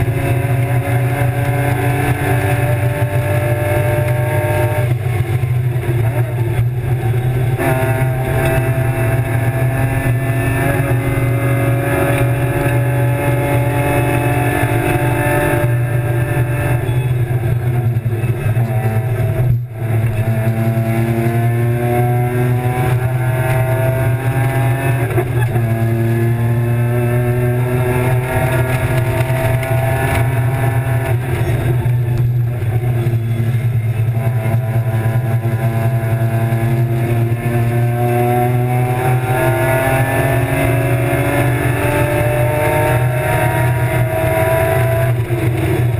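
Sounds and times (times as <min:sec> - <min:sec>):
car engine at full throttle: 0:00.0 - 0:45.9.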